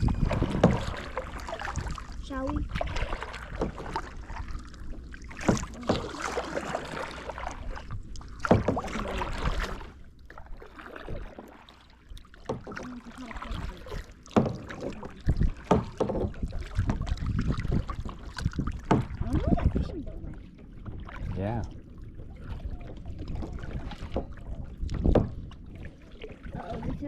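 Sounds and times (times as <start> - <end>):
paddles splashing in water: 0.0 - 27.0.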